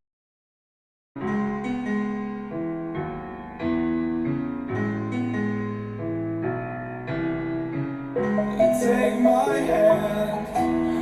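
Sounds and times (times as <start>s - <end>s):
piano chords from speaker: 1.2s - 11.0s.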